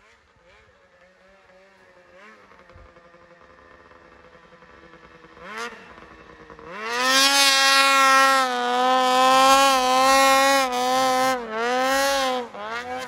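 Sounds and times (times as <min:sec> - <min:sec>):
snowmobile engine idling and revving: 0:00.0 - 0:13.0.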